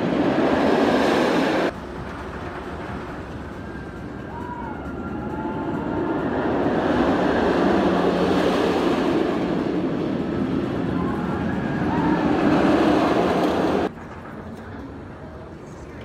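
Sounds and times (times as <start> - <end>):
roller coaster train rumbling: 0.0 - 16.0.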